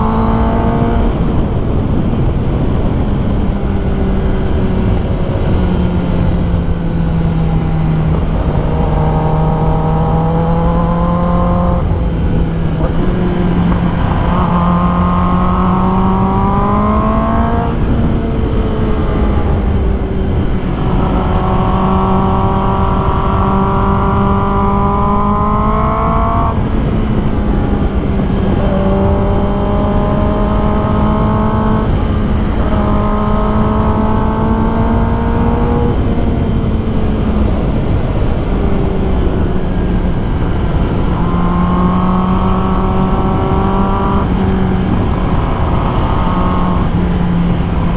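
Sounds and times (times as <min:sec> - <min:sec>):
low rush of wind: 0:00.0 - 0:47.9
motorcycle engine running at speed: 0:00.0 - 0:47.9.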